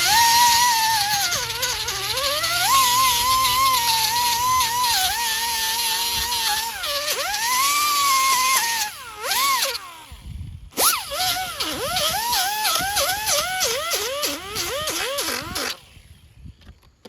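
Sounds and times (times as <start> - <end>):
high-speed rotary tool whining: 0.0 - 16.4.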